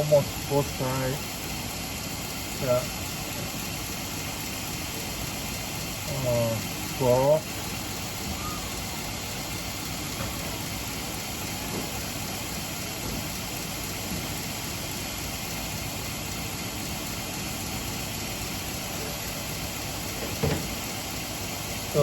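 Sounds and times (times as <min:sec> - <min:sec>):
belt sharpening machine running: 0:00.0 - 0:22.0.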